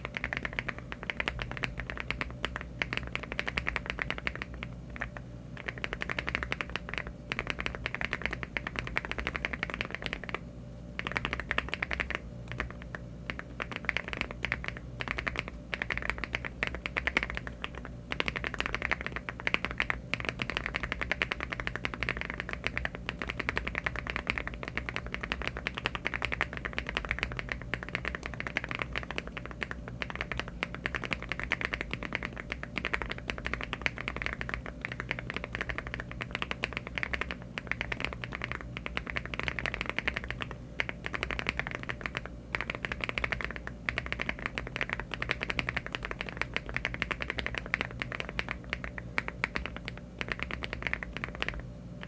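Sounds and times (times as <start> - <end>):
mechanical keyboard typing: 0.0 - 10.4, 11.0 - 51.7.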